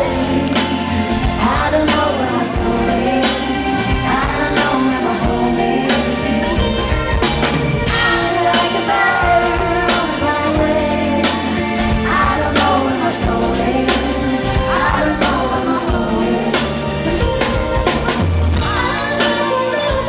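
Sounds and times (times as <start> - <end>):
person singing: 0.0 - 20.0
pop band playing: 0.0 - 20.0.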